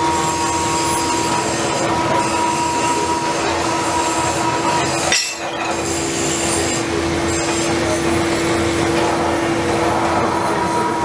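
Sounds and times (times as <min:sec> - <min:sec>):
mechanical noise: 0:00.0 - 0:11.0
pillar drill motor hum: 0:00.0 - 0:11.0.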